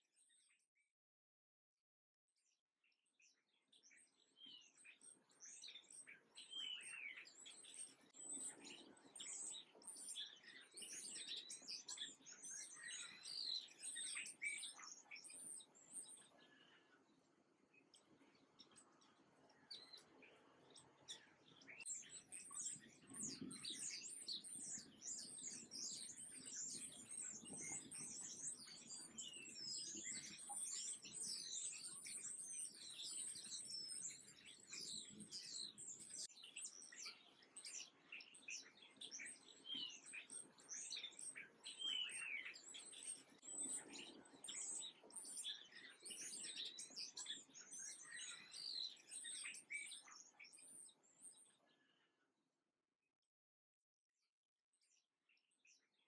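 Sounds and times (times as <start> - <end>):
small songbirds chirping: 0.0 - 0.9, 2.4 - 52.2, 54.7 - 56.0.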